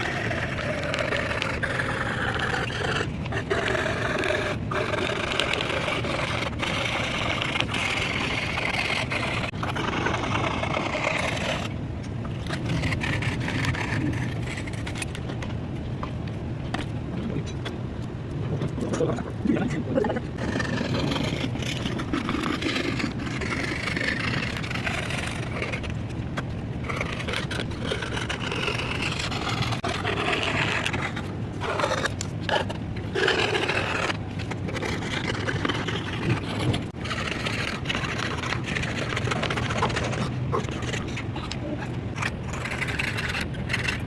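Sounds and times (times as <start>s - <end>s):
scraping and rubbing on wood: 0.0s - 15.4s, 20.2s - 44.0s.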